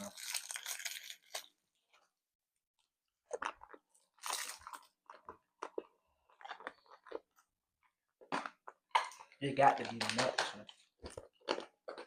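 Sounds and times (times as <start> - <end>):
chewing hard candy: 0.0 - 1.6, 3.2 - 12.0.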